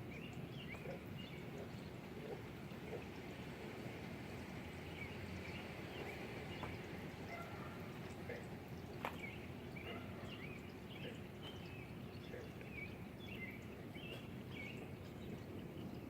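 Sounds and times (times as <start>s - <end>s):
small birds chirping: 0.0s - 3.4s, 4.6s - 16.0s.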